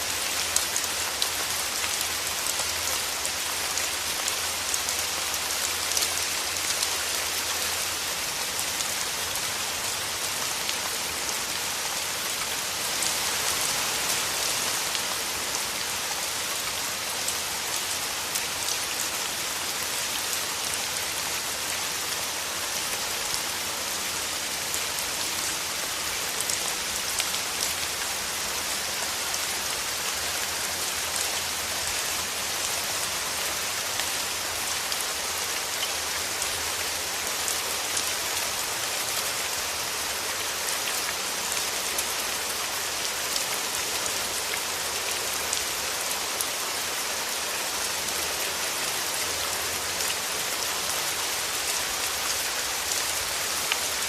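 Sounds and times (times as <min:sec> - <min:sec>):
rain falling through trees: 0:00.0 - 0:54.0.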